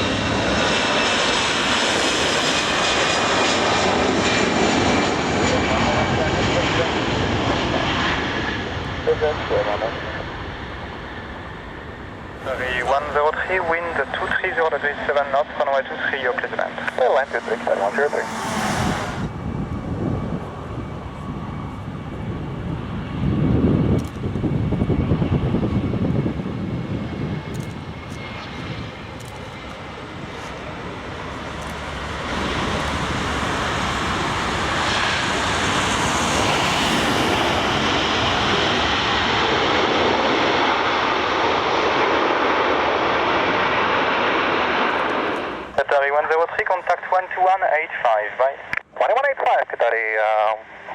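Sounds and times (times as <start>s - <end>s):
jet engines rushing: 0.0s - 49.0s, 49.6s - 50.9s.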